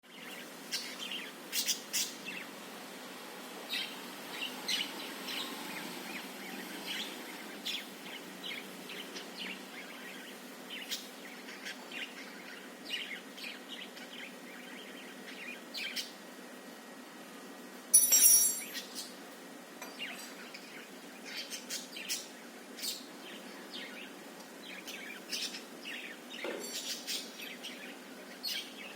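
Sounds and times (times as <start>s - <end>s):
parakeet chirping and warbling: 0.1s - 2.5s, 3.7s - 16.2s, 20.0s - 28.9s.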